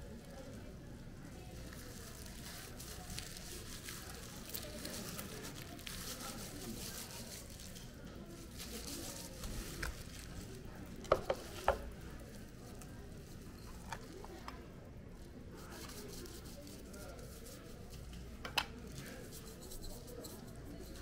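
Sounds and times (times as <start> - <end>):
soft rustling: 0.0 - 21.0.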